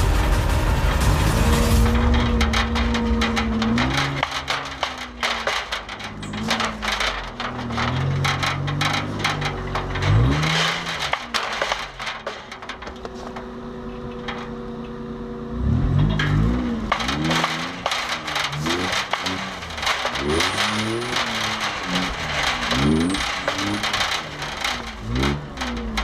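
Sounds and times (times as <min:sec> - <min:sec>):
loose metal parts rattling: 0:00.0 - 0:26.0
truck engine revving: 0:00.0 - 0:26.0.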